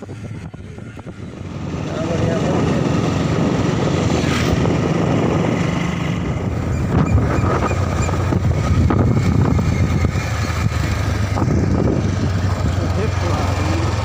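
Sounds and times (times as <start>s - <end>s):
motorbike engine hum: 0.0s - 14.0s
wind rushing over microphone: 0.0s - 14.0s.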